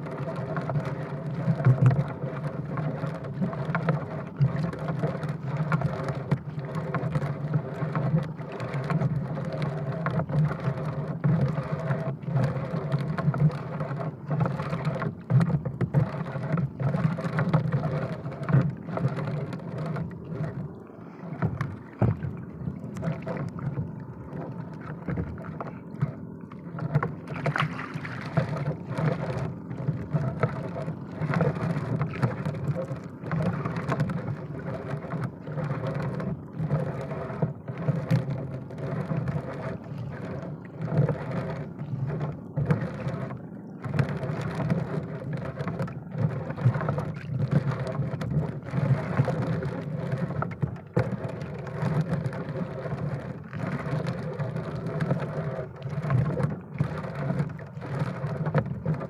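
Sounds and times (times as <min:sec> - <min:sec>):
boat engine running: 0:00.0 - 0:59.0
rough fluttering noise: 0:00.0 - 0:59.0.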